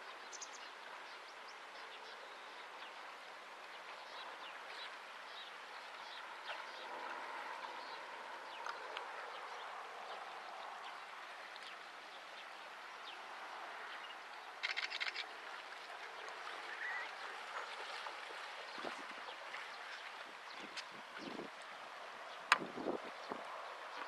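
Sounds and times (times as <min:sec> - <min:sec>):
river flowing over stones: 0:00.0 - 0:24.0.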